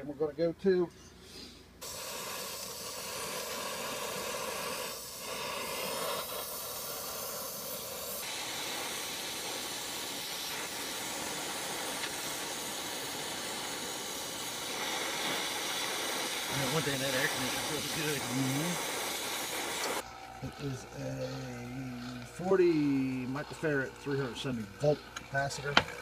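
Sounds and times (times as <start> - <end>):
torch flame hissing: 1.3 - 26.0.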